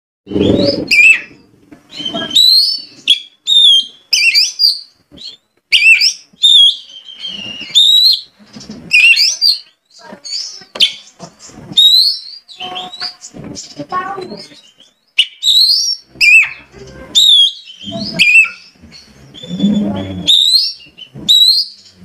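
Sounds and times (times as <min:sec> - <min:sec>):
bird singing whistled phrases: 0:00.3 - 0:08.3, 0:08.9 - 0:09.7, 0:11.8 - 0:13.2, 0:14.4 - 0:22.0.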